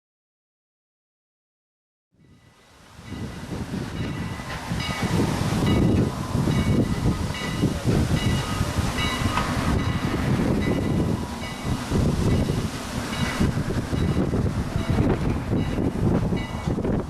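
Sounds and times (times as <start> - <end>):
steam train rumbling: 2.2 - 17.0.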